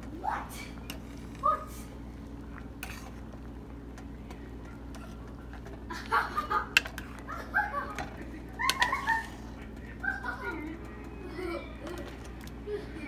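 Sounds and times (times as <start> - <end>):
pot of water boiling: 0.0 - 13.0
steady low hum: 0.0 - 13.0.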